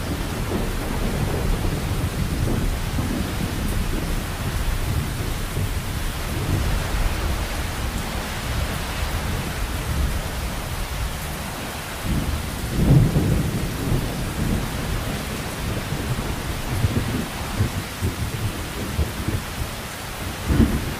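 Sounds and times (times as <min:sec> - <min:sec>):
heavy rain: 0:00.0 - 0:20.9
rolling thunder: 0:00.0 - 0:20.9.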